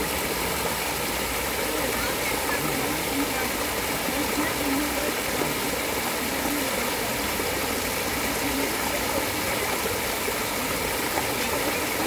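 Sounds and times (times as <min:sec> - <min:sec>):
water rushing over boulders: 0:00.0 - 0:12.0.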